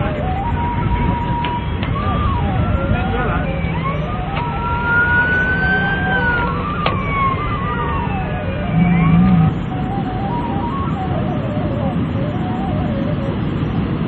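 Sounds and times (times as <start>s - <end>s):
emergency siren wailing: 0.0s - 14.0s
steady background din: 0.0s - 14.0s.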